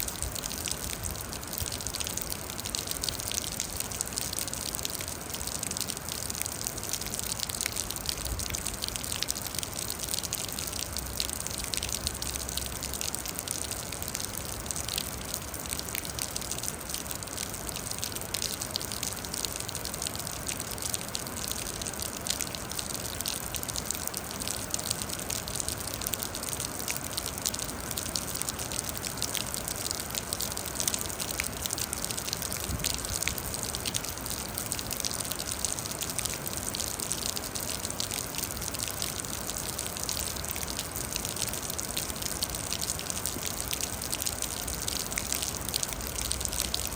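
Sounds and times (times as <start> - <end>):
raindrops ticking: 0.0 - 46.9
steady rain hiss: 0.0 - 46.9.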